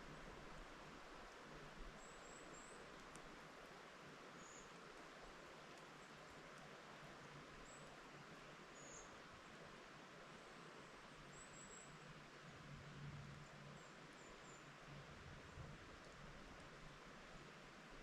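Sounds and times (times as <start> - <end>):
wind rustling through trees: 0.0 - 18.0.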